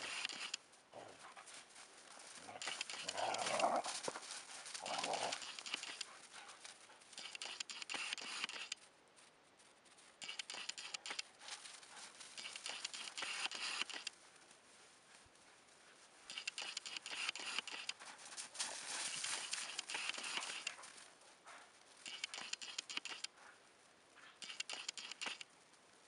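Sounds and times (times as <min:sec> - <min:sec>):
paws crunching through snow: 0:00.0 - 0:22.7.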